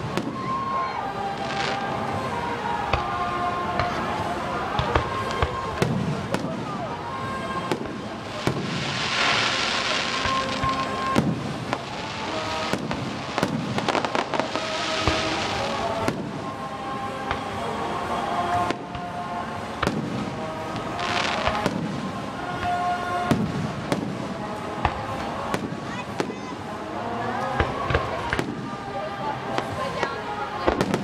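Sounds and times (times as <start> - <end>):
fireworks bangs: 0.0 - 26.8, 27.4 - 31.0
fireworks hissing and crackling: 0.0 - 31.0.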